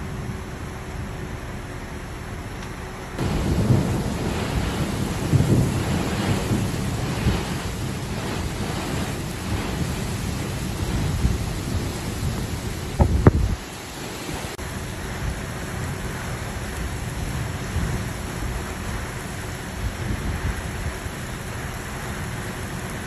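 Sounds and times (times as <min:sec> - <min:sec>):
low rumbling: 0:00.0 - 0:23.0
heavy rain pouring: 0:02.9 - 0:23.0.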